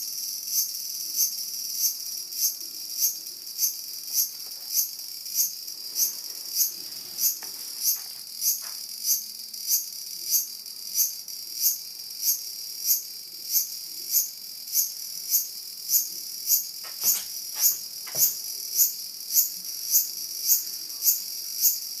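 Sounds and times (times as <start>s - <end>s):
cicada buzzing: 0.0s - 22.0s.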